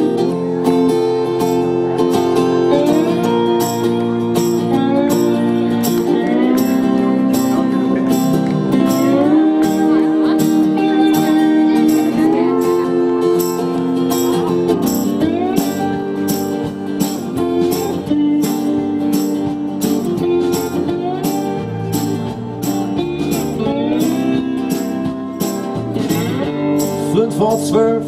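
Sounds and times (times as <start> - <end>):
guitar with sliding notes: 0.0 - 28.0
steady drum beat: 0.0 - 28.0.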